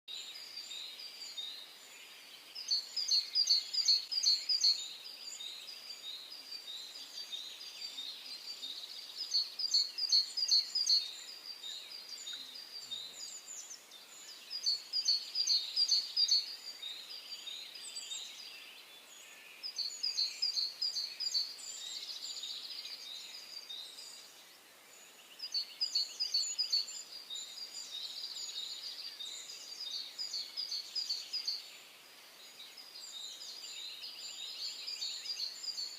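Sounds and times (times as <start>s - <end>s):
bird song of rapid high notes: 0.1s - 35.9s
soft bird chatter: 0.1s - 35.9s.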